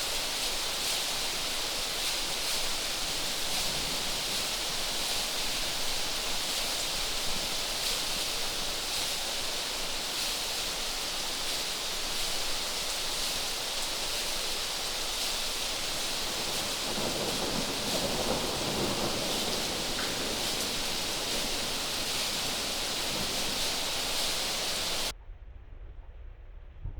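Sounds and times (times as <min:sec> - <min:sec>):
rushing water: 0:00.0 - 0:25.1.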